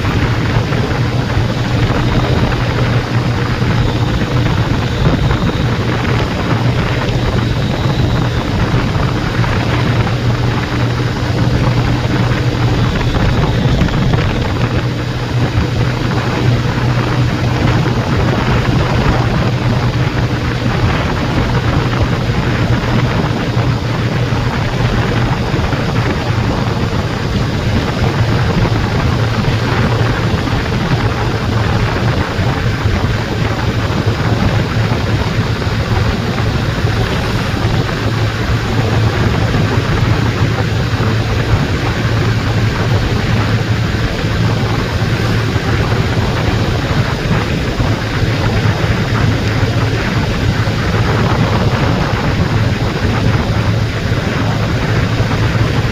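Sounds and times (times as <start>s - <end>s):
motorbike engine drone: 0.0s - 55.9s
wind rush: 0.0s - 55.9s.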